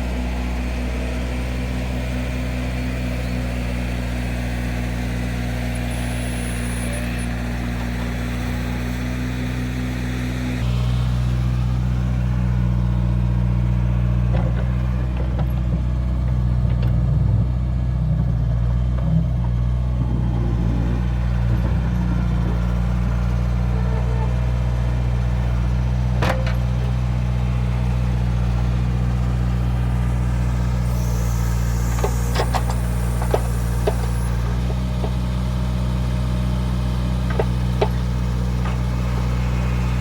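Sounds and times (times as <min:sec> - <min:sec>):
digging machine engine running: 0:00.0 - 0:40.0.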